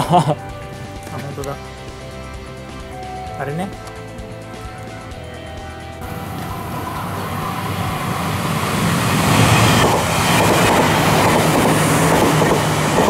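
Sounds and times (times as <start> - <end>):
electric train passing: 0.5 - 13.0.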